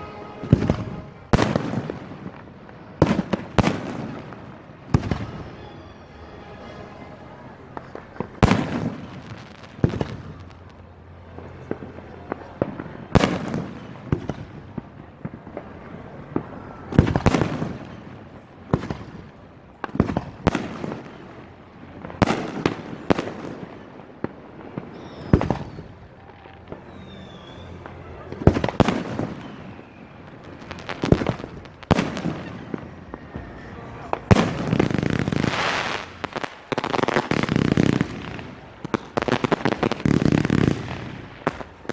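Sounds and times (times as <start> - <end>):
fireworks bursting: 0.0 - 41.9.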